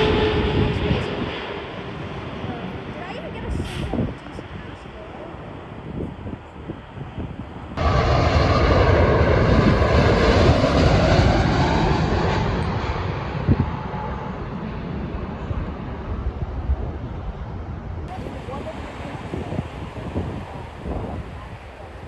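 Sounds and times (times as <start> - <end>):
jet engines roaring: 0.0 - 5.9, 6.9 - 22.0.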